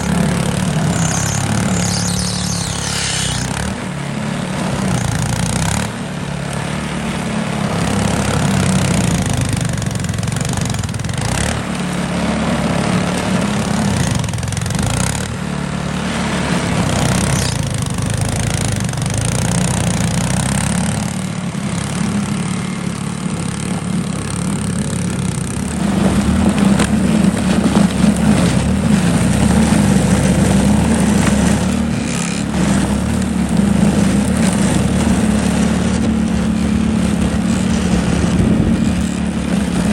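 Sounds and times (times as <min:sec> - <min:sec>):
snow thrower engine running: 0:00.0 - 0:39.9.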